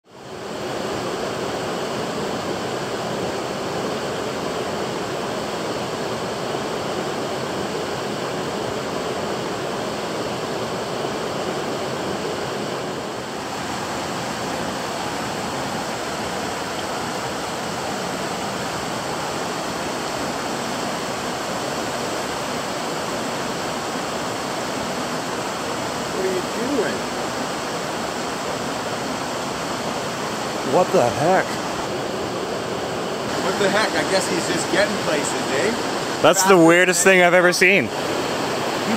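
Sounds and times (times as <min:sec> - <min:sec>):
river rapids roaring: 0:00.1 - 0:38.9.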